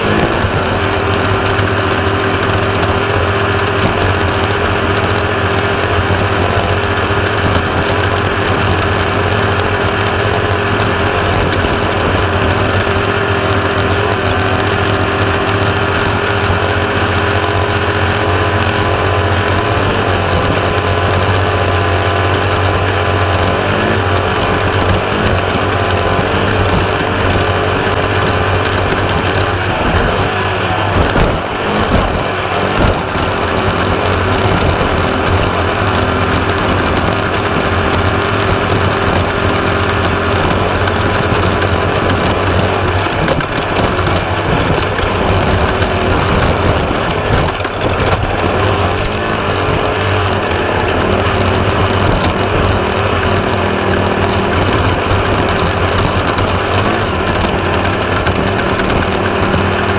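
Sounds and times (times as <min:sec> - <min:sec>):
chassis rattling over rough ground: 0:00.0 - 0:59.9
race car engine running: 0:00.0 - 0:59.9.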